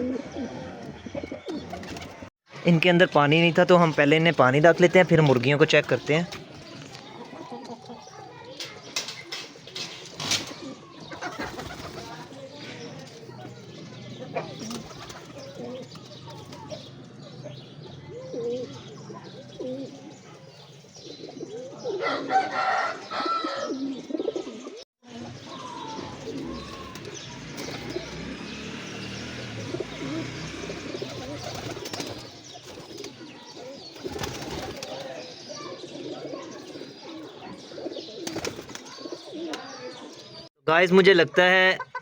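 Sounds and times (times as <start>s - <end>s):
pigeons cooing: 0.0s - 2.3s, 3.6s - 40.5s
flurry of pigeon noise: 0.0s - 42.0s.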